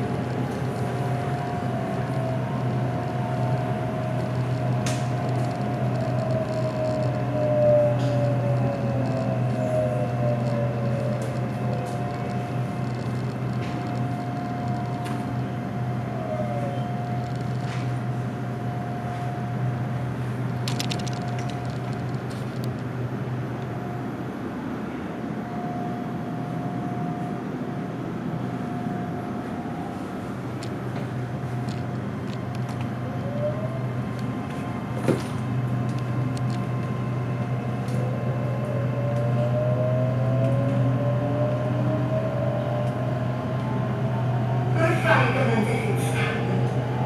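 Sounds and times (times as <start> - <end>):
electric train humming and whining: 0.0 - 47.0.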